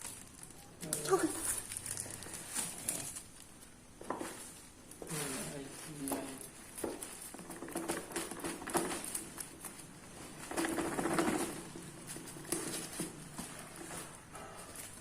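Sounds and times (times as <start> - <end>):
packaging rustling: 0.0 - 15.0.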